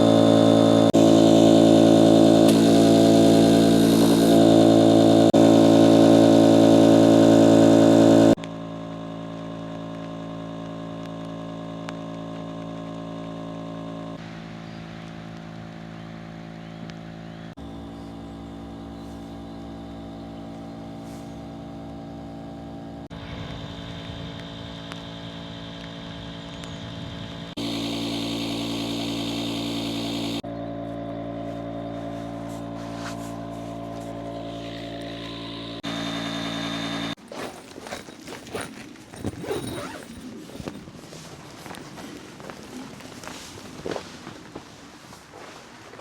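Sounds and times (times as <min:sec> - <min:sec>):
motor running: 0:00.0 - 0:43.5.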